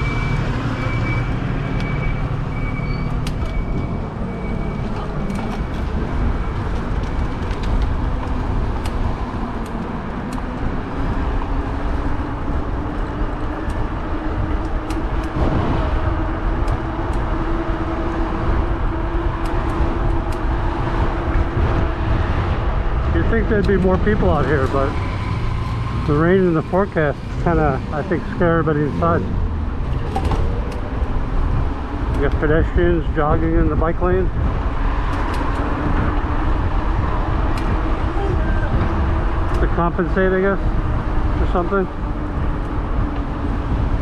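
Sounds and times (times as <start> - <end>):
street traffic: 0.0 - 44.0.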